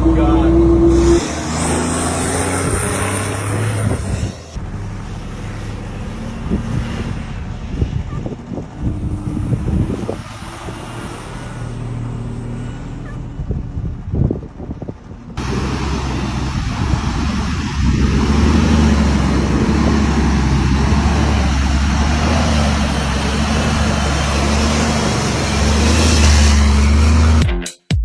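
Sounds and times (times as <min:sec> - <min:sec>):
road and wind noise: 0:00.0 - 0:27.4
truck engine drone: 0:00.0 - 0:27.6.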